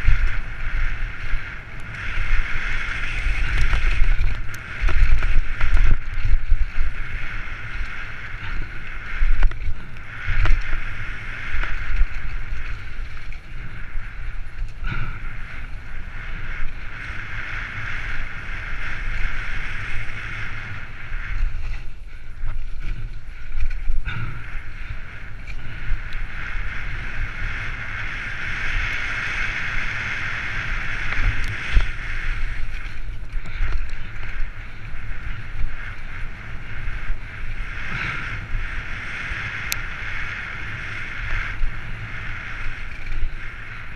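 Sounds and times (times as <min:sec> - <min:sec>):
bike tyre rumble and rattle: 0:00.0 - 0:43.9
wind rushing over camera: 0:00.0 - 0:43.9.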